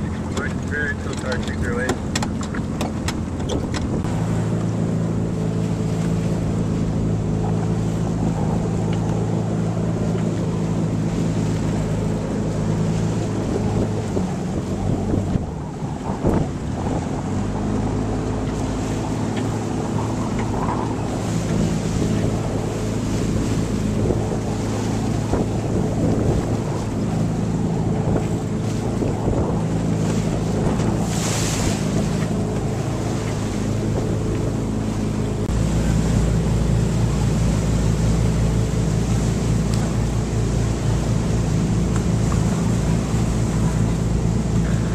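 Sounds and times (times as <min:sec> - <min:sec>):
boat engine running: 0:00.0 - 0:44.9
passing powerboat engine: 0:00.0 - 0:44.9
water rushing by: 0:00.0 - 0:44.9
wind buffeting microphone: 0:00.0 - 0:44.9.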